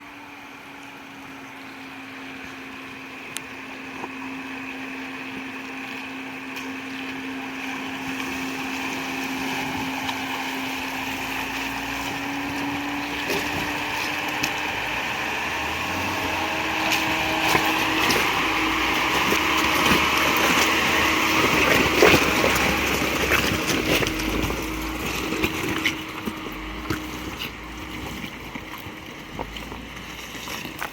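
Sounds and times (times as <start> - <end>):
car engine running: 0.0 - 30.9
water splashing against car: 3.7 - 30.9.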